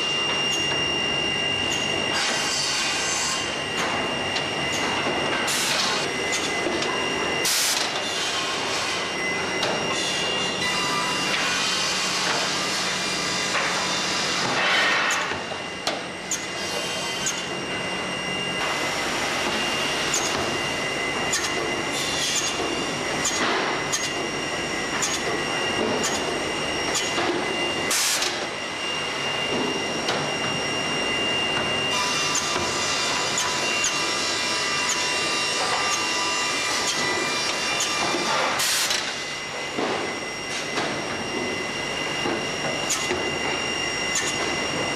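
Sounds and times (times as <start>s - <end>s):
woodworking machine whining: 0.0s - 44.9s.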